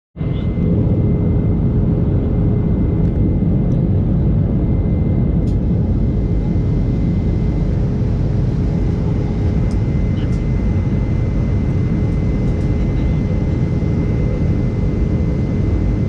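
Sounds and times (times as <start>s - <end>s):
jet cabin engine rumble: 0.2s - 16.0s.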